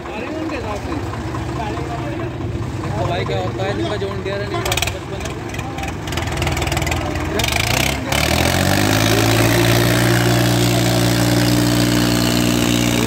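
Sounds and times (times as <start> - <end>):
diesel tractor engines working hard: 0.0 - 13.0.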